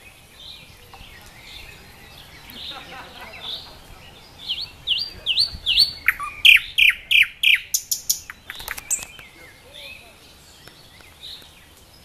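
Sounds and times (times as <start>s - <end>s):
nightingale singing: 0.0s - 12.0s.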